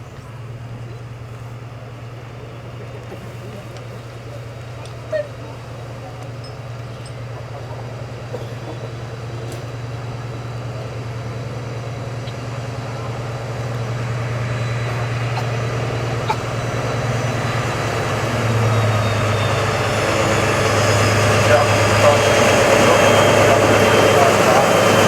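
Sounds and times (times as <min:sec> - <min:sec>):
diesel locomotive engine running: 0:00.0 - 0:25.0.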